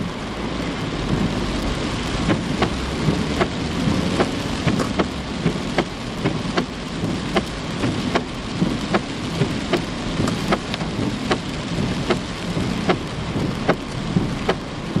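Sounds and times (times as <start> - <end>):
heavy rain falling: 0.0 - 15.0
raindrops tapping hard surface: 0.0 - 15.0.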